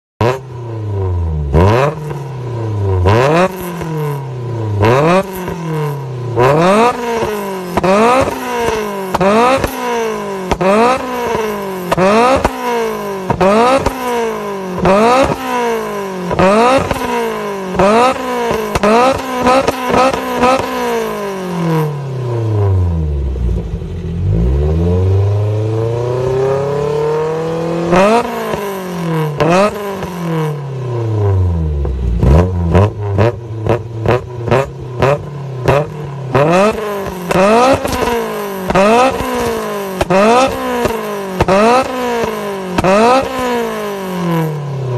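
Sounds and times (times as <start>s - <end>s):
car engine revving: 0.2s - 44.9s.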